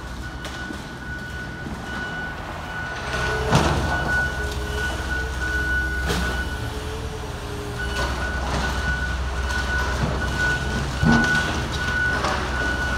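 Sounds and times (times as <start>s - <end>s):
diesel machinery rumble: 0.0s - 12.9s.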